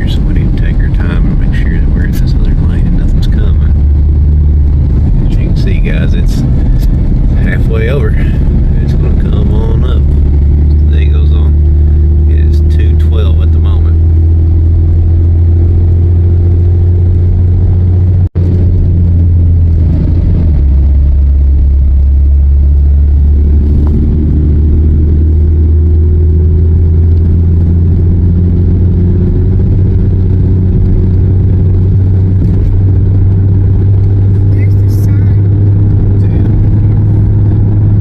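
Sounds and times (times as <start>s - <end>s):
car engine running: 0.0s - 38.0s
road rumble: 0.0s - 38.0s.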